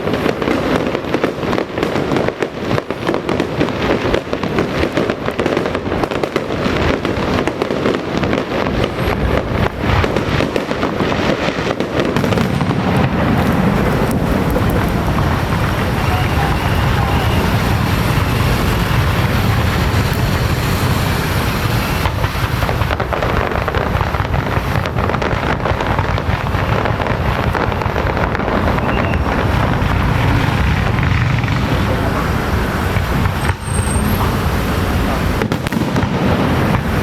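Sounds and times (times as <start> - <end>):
firecrackers crackling: 0.0 - 37.0.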